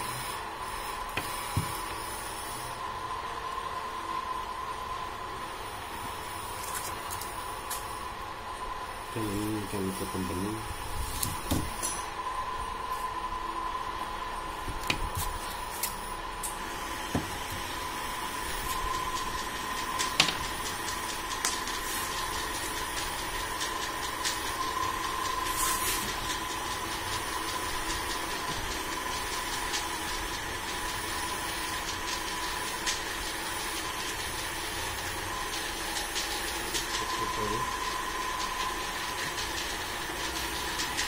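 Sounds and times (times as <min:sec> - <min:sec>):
mechanical hum and hiss: 0:00.0 - 0:41.0
thin steady whine: 0:00.0 - 0:41.0.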